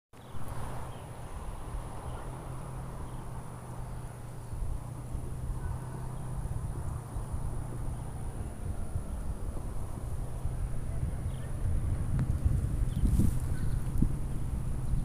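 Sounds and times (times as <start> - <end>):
wind on microphone: 0.3 - 15.0.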